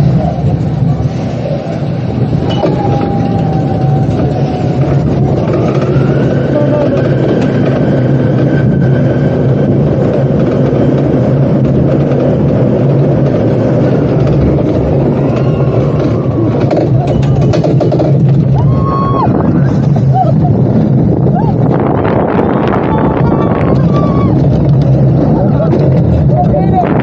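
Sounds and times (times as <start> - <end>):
roller coaster rumbling on track: 0.0 - 27.0.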